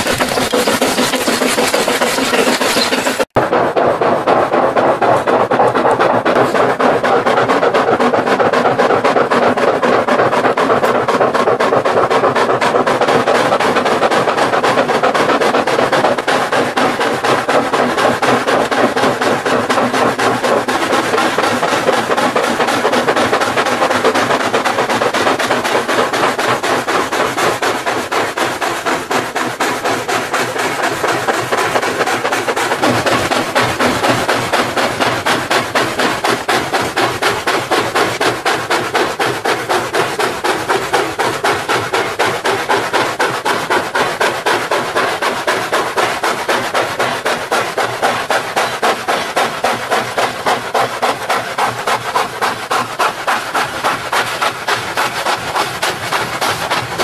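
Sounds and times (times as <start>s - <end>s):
steam locomotive chuffing: 0.0s - 57.0s.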